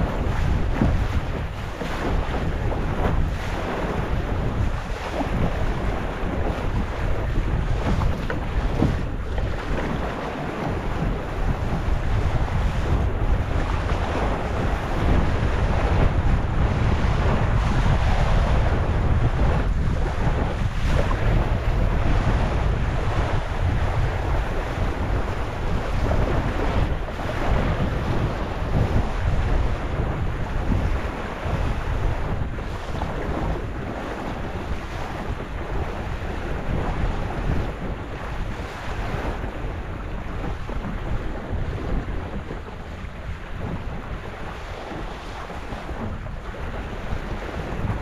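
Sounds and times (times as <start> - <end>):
water splashing against hull: 0.0 - 48.0
wind noise on microphone: 0.0 - 48.0.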